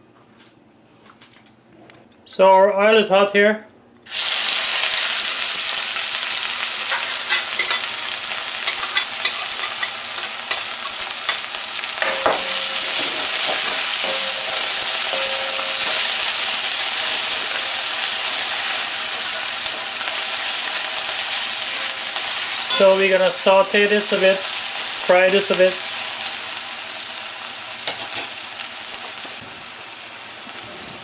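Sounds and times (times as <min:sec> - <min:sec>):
onions sizzling in hot oil: 0:04.1 - 0:31.0.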